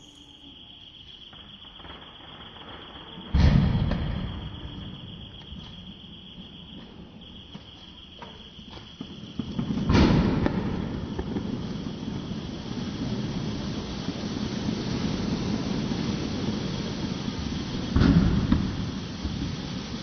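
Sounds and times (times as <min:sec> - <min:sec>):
firework crackling: 0:00.0 - 0:20.0
firework loud burst: 0:01.7 - 0:20.0
firework spraying hiss: 0:03.3 - 0:20.0.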